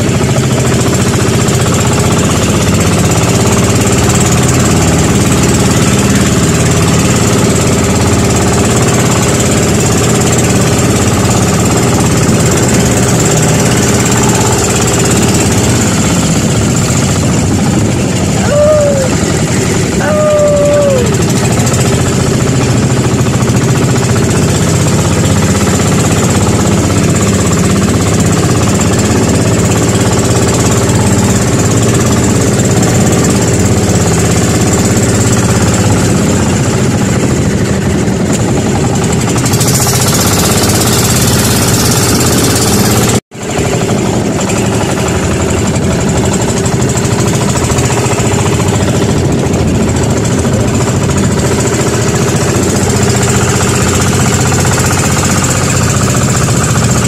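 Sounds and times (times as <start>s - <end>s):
boat engine knocking drone: 0.0s - 57.0s.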